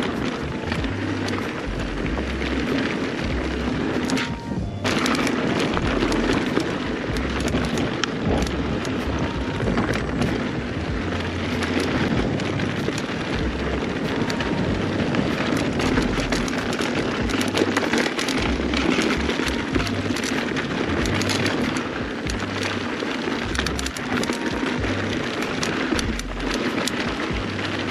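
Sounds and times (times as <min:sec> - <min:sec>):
bike tyres crunching on gravel: 0:00.0 - 0:27.9
sharp clicks and knocks: 0:00.0 - 0:27.9.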